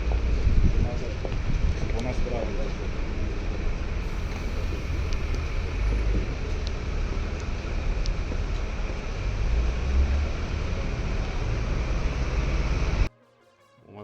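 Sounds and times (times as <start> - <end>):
low rumbling noise with hiss: 0.0 - 13.1.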